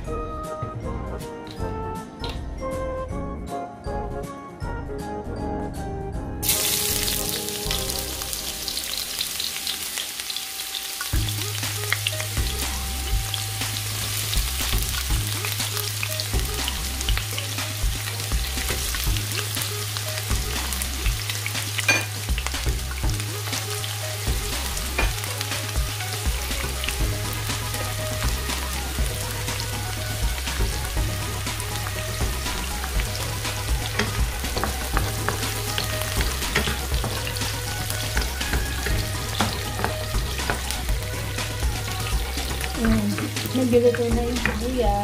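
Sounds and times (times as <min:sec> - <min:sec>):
onion sizzling in hot oil: 0:06.4 - 0:45.0.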